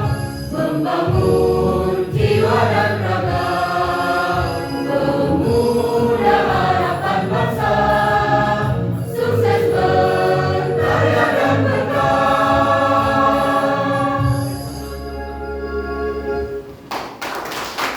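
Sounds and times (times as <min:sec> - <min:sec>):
choir singing a march: 0:00.0 - 0:16.5.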